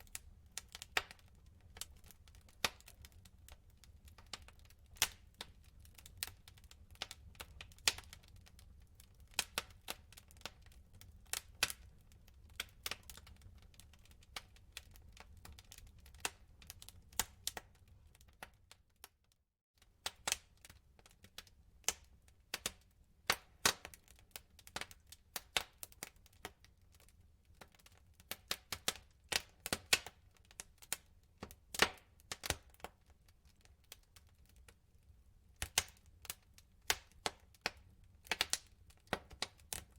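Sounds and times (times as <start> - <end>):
wood fire crackling and popping: 0.0 - 19.2, 19.8 - 39.9.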